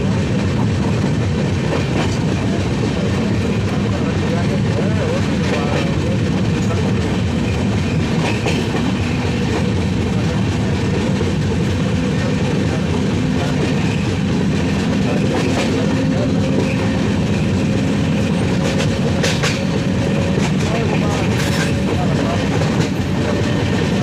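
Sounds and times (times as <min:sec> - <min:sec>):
train wheels rumbling on rails: 0:00.0 - 0:24.0
wheels clacking over rail joints: 0:00.3 - 0:24.0.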